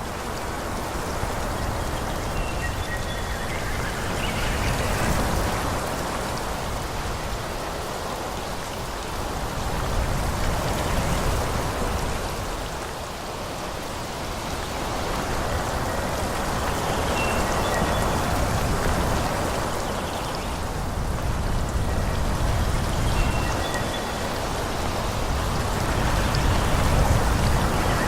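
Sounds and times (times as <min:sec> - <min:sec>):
wind rustling through trees: 0:00.0 - 0:28.0.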